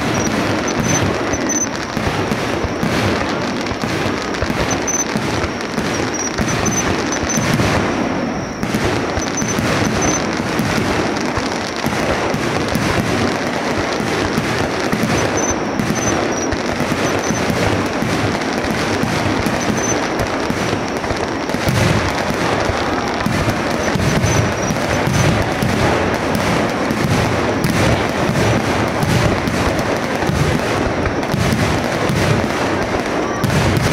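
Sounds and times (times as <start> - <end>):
fireworks bursting: 0.0 - 33.9.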